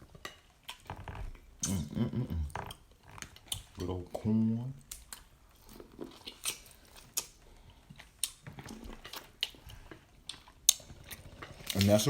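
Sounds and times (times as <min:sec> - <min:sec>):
chewing and mouth smacks: 0:00.2 - 0:04.2, 0:04.8 - 0:11.9.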